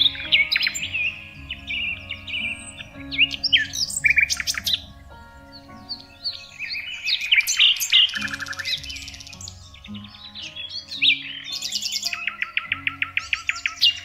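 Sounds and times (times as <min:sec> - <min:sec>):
soft background music: 0:00.0 - 0:14.0
songbirds chirping: 0:00.0 - 0:14.0.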